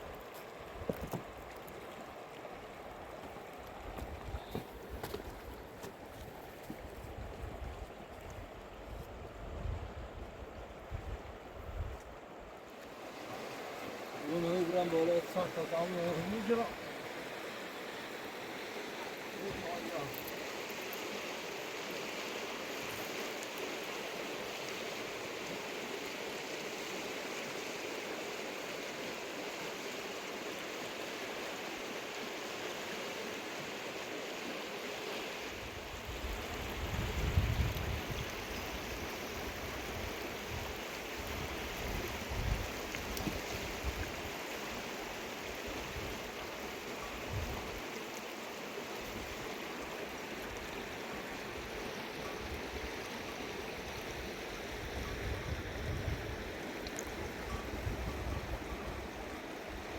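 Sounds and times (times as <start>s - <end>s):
river rushing: 0.0s - 6.7s, 12.2s - 59.9s.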